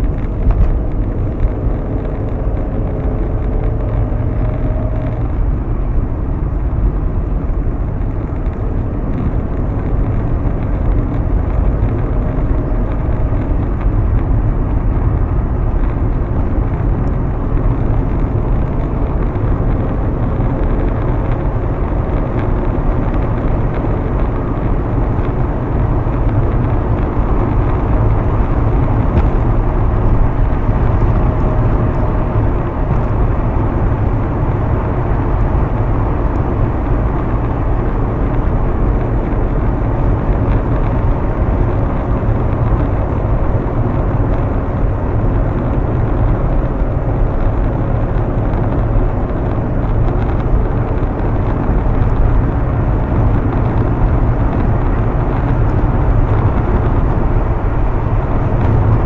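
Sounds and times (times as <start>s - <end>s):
car road noise inside cabin: 0.0s - 59.0s.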